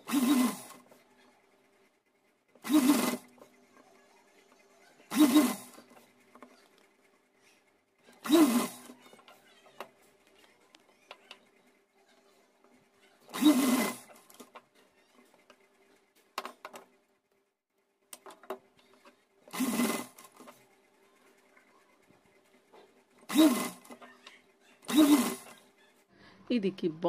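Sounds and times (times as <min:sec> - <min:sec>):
sewing machine stitching: 0:00.0 - 0:26.1.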